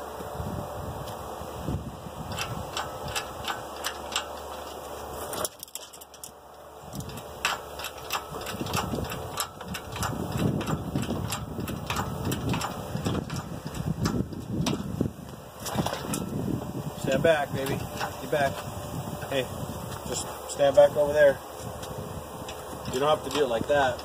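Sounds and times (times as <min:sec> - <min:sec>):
hydraulic hoist pump clicking: 0:02.3 - 0:21.0, 0:21.6 - 0:24.0.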